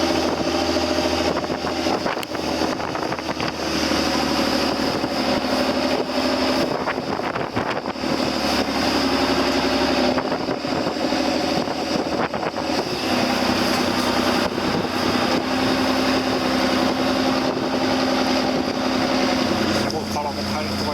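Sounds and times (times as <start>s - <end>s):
boat engine running: 0.0s - 20.9s
wind buffeting microphone: 0.0s - 20.9s.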